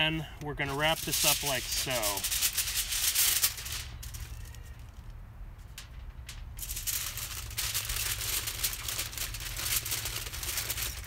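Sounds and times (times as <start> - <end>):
aluminium foil crinkling: 0.5 - 11.0.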